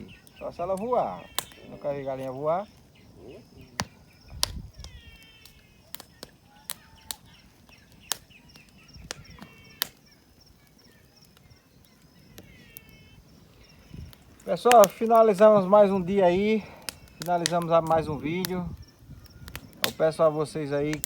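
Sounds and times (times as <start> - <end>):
birds calling: 0.0 - 21.0
bonfire crackling and popping: 0.0 - 21.0
insect trill: 0.0 - 21.0.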